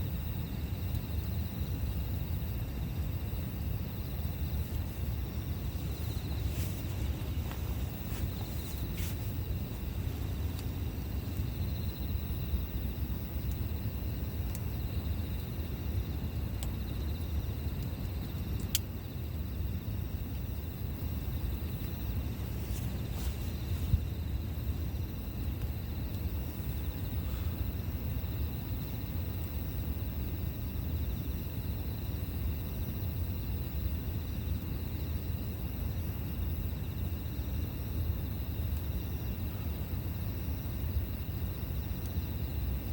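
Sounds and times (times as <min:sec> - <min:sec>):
campfire low rush: 0:00.0 - 0:42.9.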